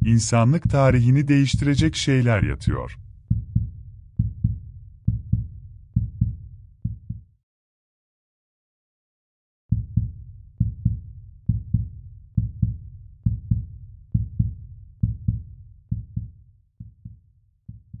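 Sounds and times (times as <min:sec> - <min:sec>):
heartbeat thumps: 0:00.0 - 0:07.2, 0:09.7 - 0:18.0.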